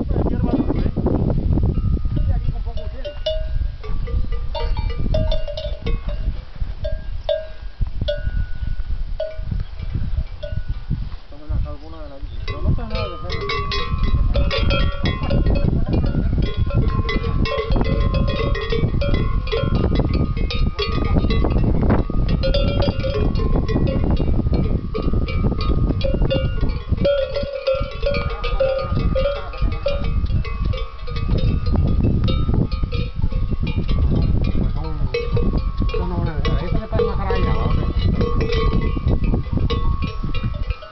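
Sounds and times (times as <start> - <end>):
cowbells clanking: 1.7 - 10.8, 12.4 - 40.9.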